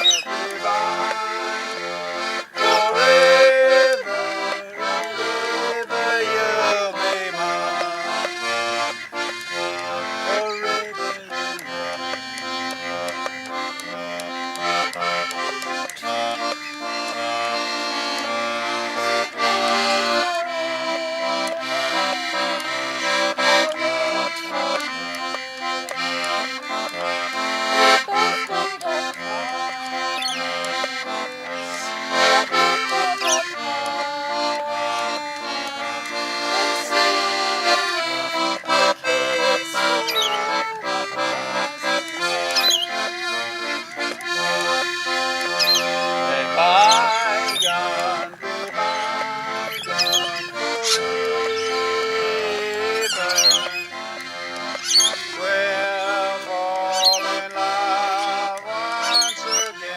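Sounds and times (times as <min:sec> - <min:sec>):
accordion playing a melody: 0:00.0 - 0:59.9.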